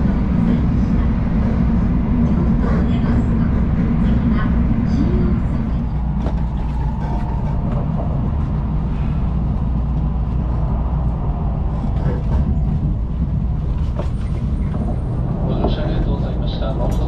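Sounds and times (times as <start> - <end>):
train rumble inside passenger car: 0.0 - 17.0.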